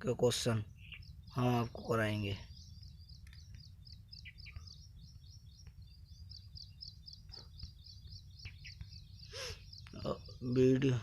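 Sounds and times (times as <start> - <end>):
rapid high-pitched chirping: 0.1 - 11.0.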